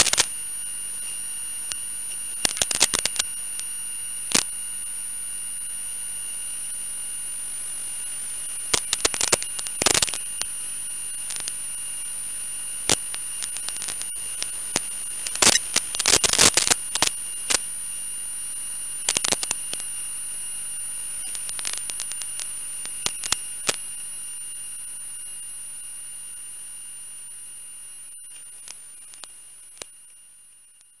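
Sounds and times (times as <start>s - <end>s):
crackling static bursts: 0.0s - 31.0s
high-pitched whine with hiss: 0.0s - 31.0s.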